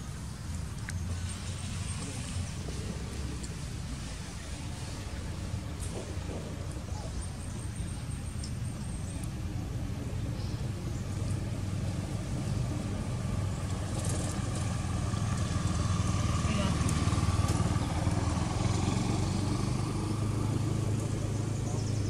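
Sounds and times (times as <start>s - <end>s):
faint engine hum: 0.0s - 22.0s
vehicle engine rumbling: 0.0s - 22.0s.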